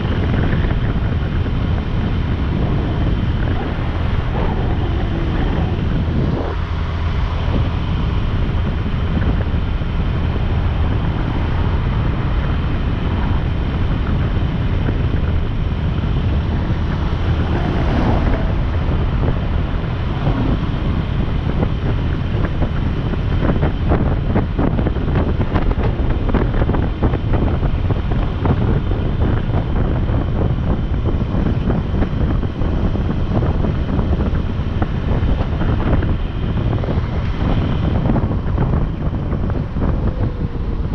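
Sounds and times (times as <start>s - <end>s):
motorcycle engine and road noise: 0.0s - 40.9s
wind buffeting microphone: 0.0s - 40.9s.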